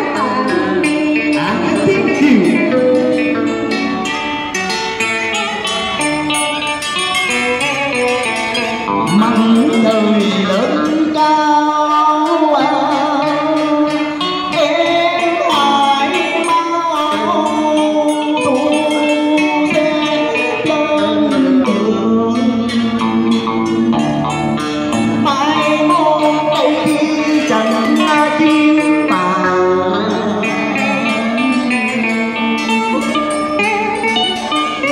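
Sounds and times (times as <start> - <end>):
man singing with vibrato: 0.0 - 4.0, 9.0 - 34.9
plucked electric guitar: 0.0 - 34.9.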